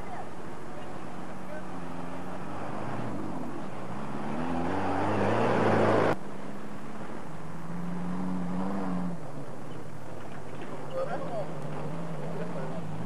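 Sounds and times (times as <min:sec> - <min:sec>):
race car engine revving: 0:00.3 - 0:13.0.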